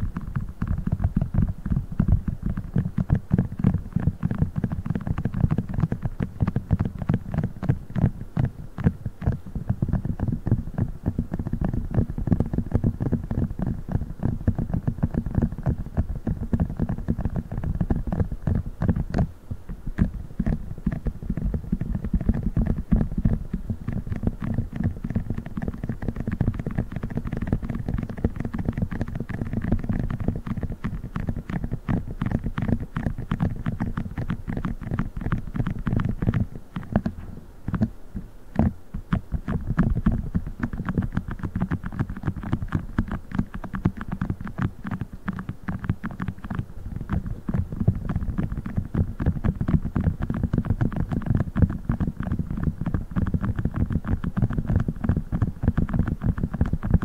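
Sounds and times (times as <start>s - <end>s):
rapid tapping on silicone funnel: 0.0s - 57.0s.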